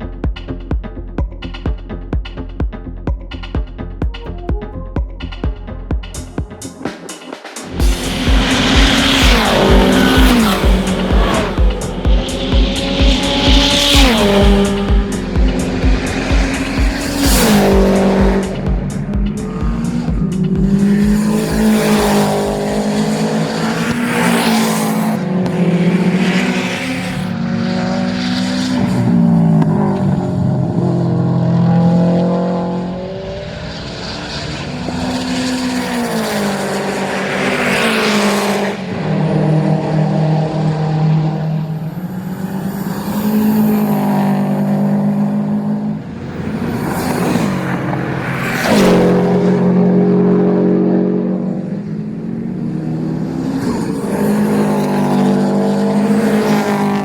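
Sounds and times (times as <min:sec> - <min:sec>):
race car engine revving: 0:05.2 - 0:57.0.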